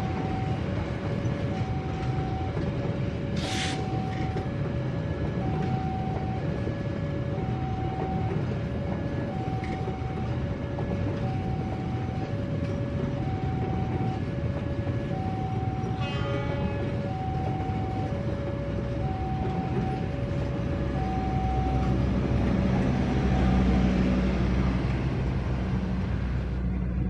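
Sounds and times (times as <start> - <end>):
two-tone electronic warning alarm: 0.0 - 26.6
train wheels rumbling on rails: 0.0 - 27.0.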